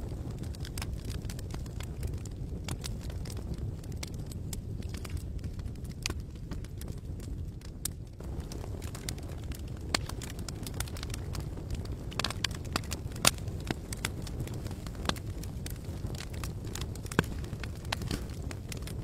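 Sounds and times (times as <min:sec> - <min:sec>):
campfire crackling and popping: 0:00.0 - 0:19.0
low rush of burning: 0:00.0 - 0:19.0.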